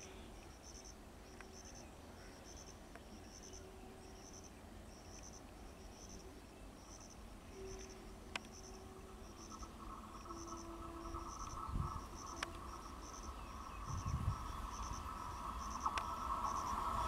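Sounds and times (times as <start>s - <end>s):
electric train whine and rumble: 0.0s - 17.0s
insects chirping in trills: 0.0s - 17.0s.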